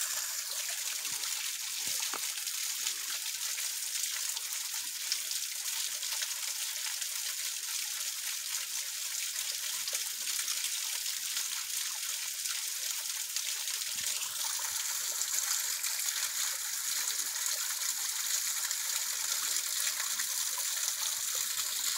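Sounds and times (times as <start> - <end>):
small waterfall splashing: 0.0 - 21.9.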